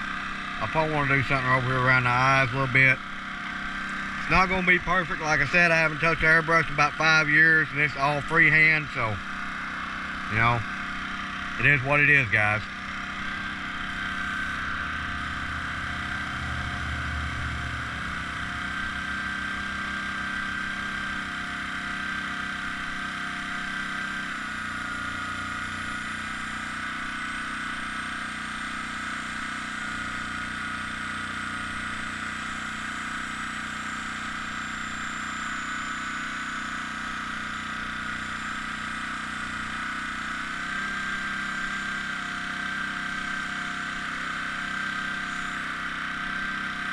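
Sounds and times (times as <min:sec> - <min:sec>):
small air compressor humming: 0:00.0 - 0:46.9.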